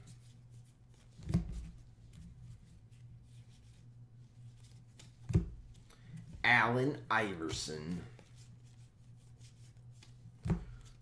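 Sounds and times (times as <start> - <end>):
steady low hum: 0.0 - 11.0
cards rustling and flicking: 0.1 - 6.4, 7.5 - 11.0.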